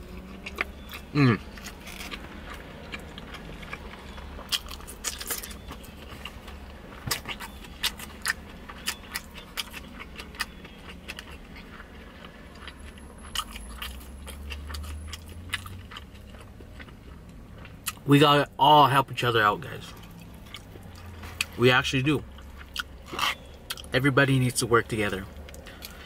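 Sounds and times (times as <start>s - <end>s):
person chewing food: 0.0s - 18.0s, 19.8s - 21.6s, 22.3s - 23.9s, 25.3s - 26.0s.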